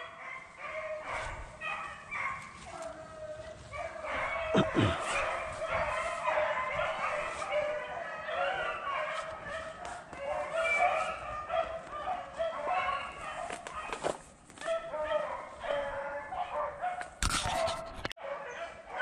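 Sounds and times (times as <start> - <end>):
dogs baying: 0.0 - 19.0.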